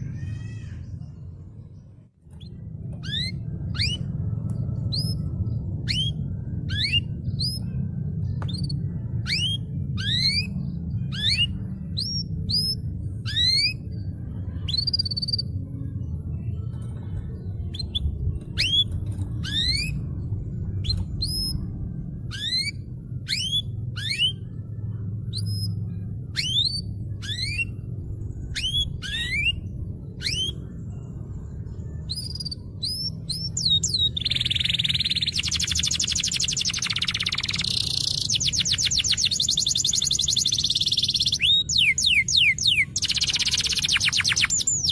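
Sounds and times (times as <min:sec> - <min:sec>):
low background rumble: 0:00.0 - 0:44.9
canary rising chirps: 0:02.3 - 0:15.7, 0:17.5 - 0:31.2, 0:31.8 - 0:44.9.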